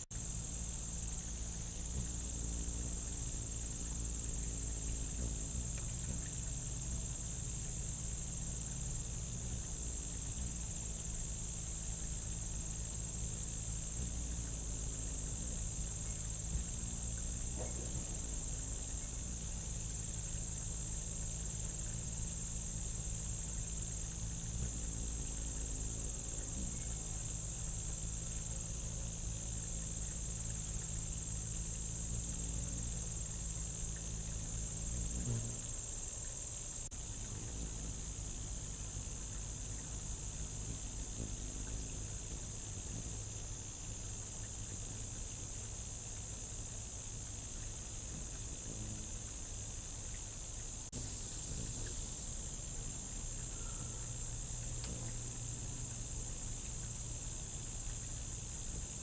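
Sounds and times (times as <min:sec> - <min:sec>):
high-pitched insect trilling: 0:00.0 - 0:59.0.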